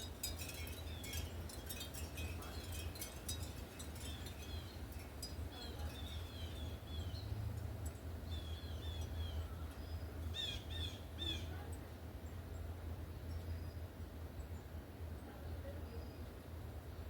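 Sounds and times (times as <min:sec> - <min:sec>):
small songbirds chirping: 0:00.0 - 0:16.4.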